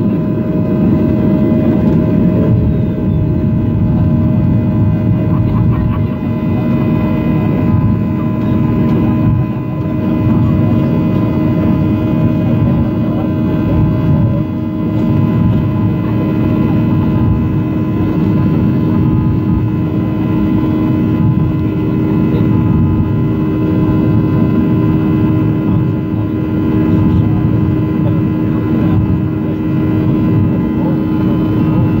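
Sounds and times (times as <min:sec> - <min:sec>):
jet engines rumbling in cabin: 0:00.0 - 0:32.0.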